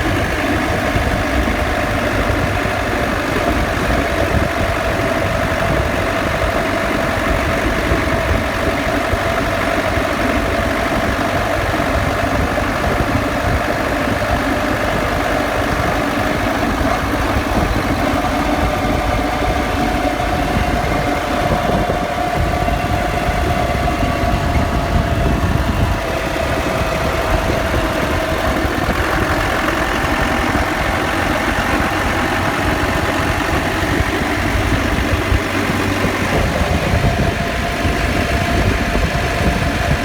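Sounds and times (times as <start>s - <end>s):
drivetrain and road rumble: 0.0s - 40.0s.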